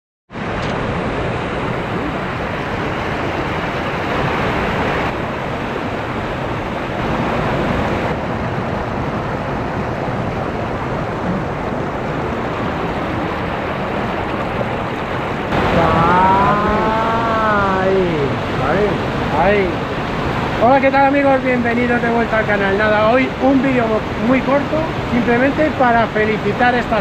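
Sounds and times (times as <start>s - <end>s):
stream rushing over rocks: 0.3s - 27.0s.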